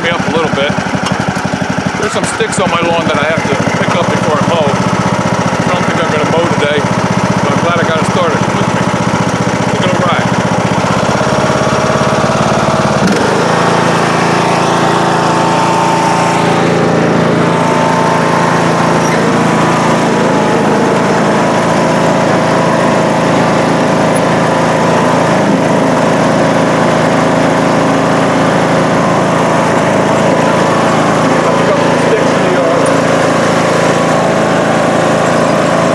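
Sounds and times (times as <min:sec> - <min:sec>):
lawn tractor engine running: 0:00.0 - 0:35.9.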